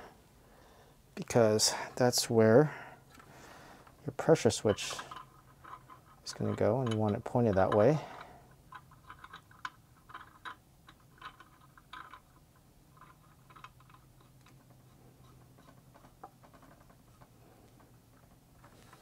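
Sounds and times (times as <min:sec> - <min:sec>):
faint metallic clicks and taps: 0:03.1 - 0:19.0.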